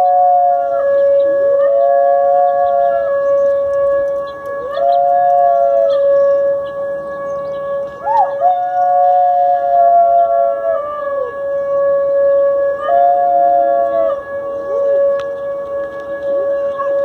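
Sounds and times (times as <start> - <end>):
dog howling: 0.0 - 17.0
steady held musical tone: 0.0 - 17.0.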